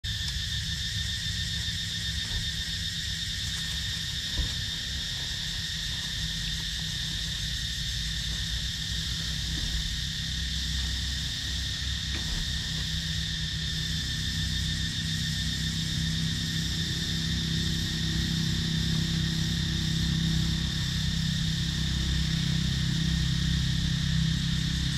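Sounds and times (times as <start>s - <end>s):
forest insects droning: 0.0s - 24.9s
low rumble: 0.0s - 24.9s.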